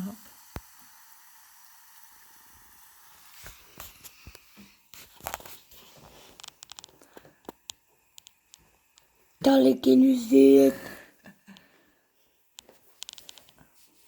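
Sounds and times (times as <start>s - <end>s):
tablets fizzing in water: 0.0s - 11.9s.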